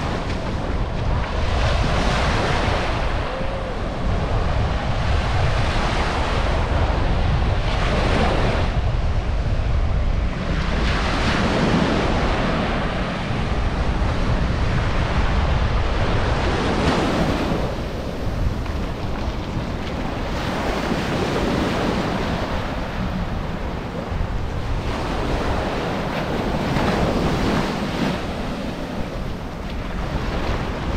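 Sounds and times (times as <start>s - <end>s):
ocean surf washing on beach: 0.0s - 30.9s
wind rumbling on microphone: 0.0s - 30.9s.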